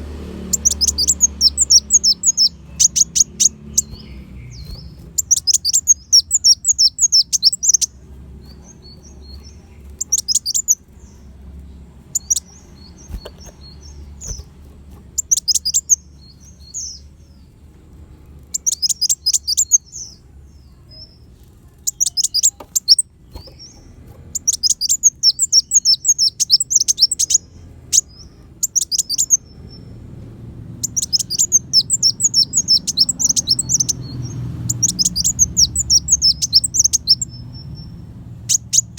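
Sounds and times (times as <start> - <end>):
faint low hum: 0.0 - 38.9
sunbird chirping trills: 0.1 - 38.9.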